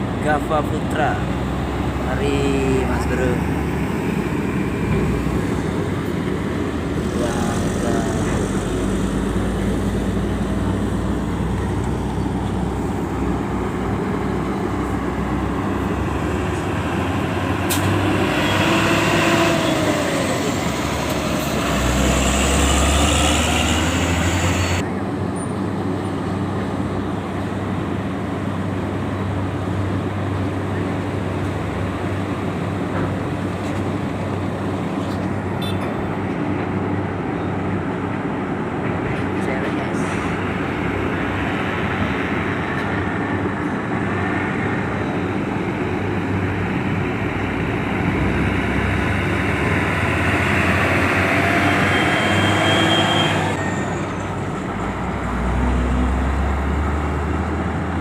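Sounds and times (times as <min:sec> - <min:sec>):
heavy diesel truck engines: 0:00.0 - 0:58.0.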